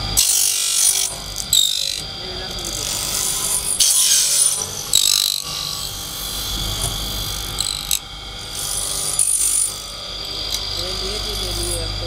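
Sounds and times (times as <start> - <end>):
high-pitched cutting noise: 0.0 - 12.0
steady motor hum: 0.0 - 12.0.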